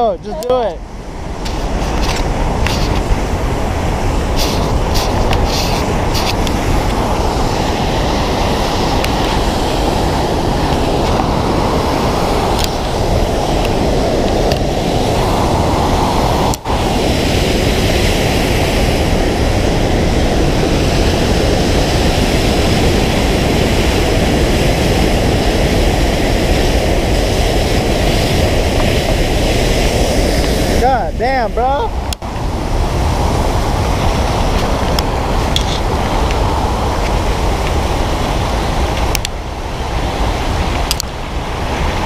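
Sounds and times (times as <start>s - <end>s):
waterfall roaring: 0.0s - 42.0s
wind noise on microphone: 0.0s - 42.0s.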